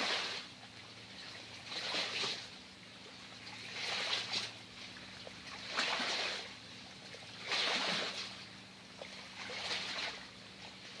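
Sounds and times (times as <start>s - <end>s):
faint steady low hum: 0.0s - 11.0s
water washing in soft swells: 0.0s - 11.0s.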